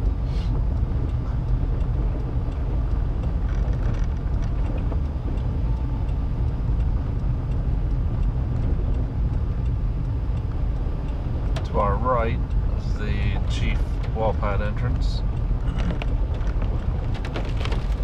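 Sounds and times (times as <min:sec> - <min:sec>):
tyres on gravel road: 0:00.0 - 0:18.0
vehicle rumble from inside cabin: 0:00.0 - 0:18.0.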